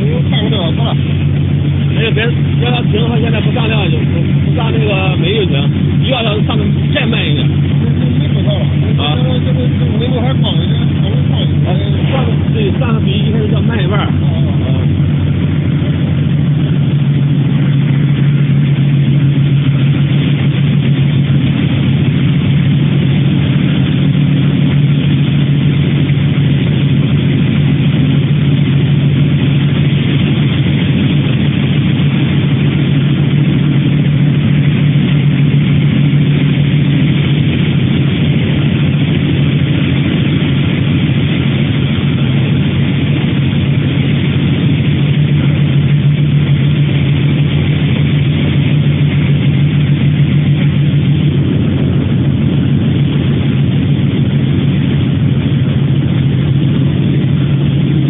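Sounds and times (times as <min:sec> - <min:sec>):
machinery drone: 0:00.0 - 0:58.0.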